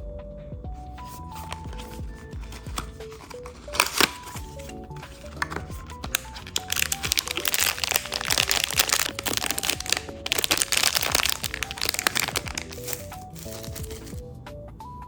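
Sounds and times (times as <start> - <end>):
background music with simple melody: 0.0 - 15.0
packaging crinkling: 1.0 - 14.2.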